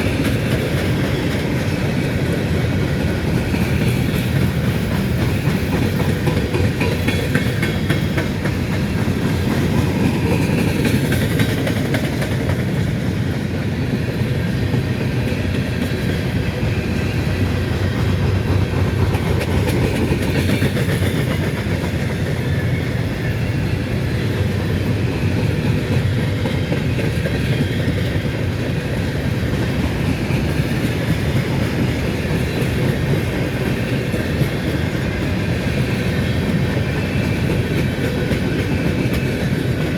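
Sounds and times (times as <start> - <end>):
steel wheels rumbling on rails: 0.0 - 39.9.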